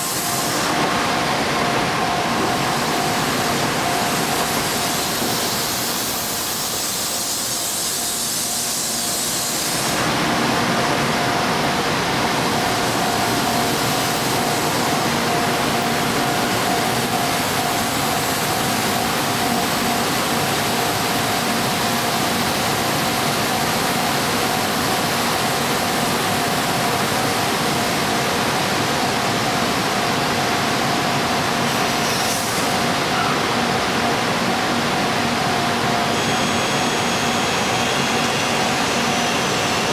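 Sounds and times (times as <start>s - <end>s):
train rushing noise: 0.0s - 39.9s.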